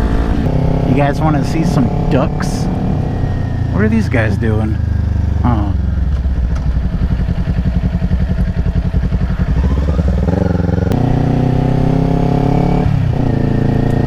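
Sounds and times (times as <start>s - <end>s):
sport bike engine revving: 0.0s - 14.0s.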